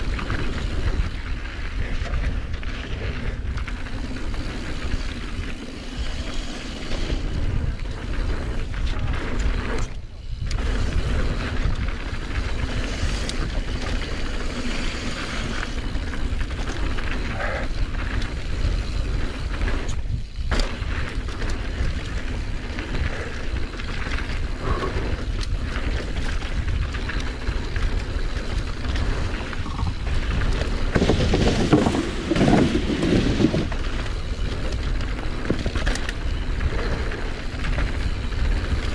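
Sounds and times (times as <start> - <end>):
tyre and bike rattle: 0.0 - 38.9
wind rumble on microphone: 0.0 - 38.9.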